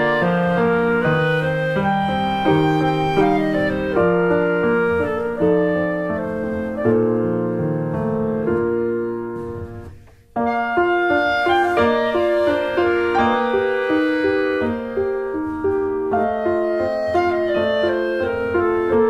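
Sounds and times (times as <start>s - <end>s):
instrumental piano music: 0.0s - 19.0s.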